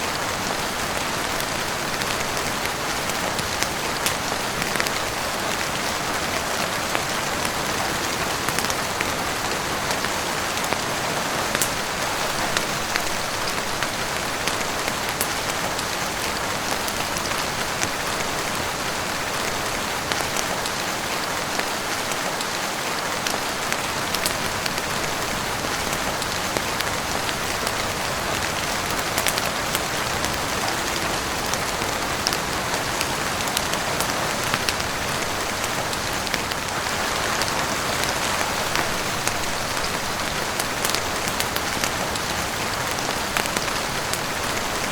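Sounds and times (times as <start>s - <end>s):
heavy rain on roof and windows: 0.0s - 44.9s
sharp ticks of raindrops: 0.0s - 44.9s.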